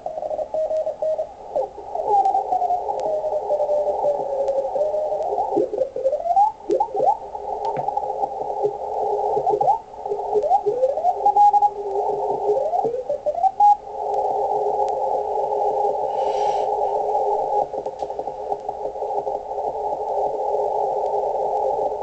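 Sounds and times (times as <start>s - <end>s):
filtered radio hiss: 0.0s - 22.0s.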